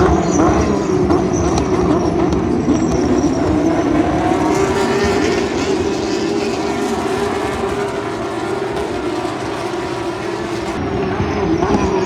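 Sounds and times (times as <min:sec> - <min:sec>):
race cars passing at high revs: 0:00.0 - 0:12.0.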